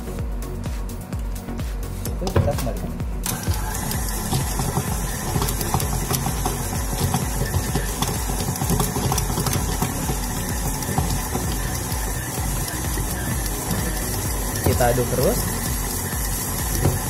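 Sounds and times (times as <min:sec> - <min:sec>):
stand mixer motor kneading dough: 0:03.2 - 0:17.0.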